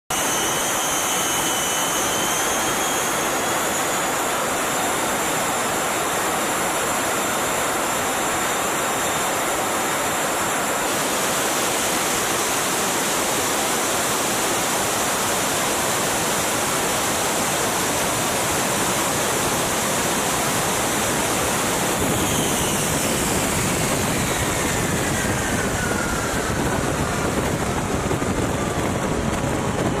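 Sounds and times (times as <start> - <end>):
high turbine whine: 0.1 - 30.0
jet engines roaring: 0.1 - 30.0.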